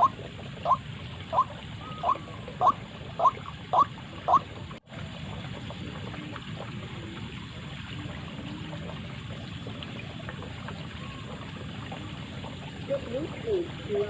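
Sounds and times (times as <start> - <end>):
waterhen call: 0.0 - 4.8, 5.7 - 14.0.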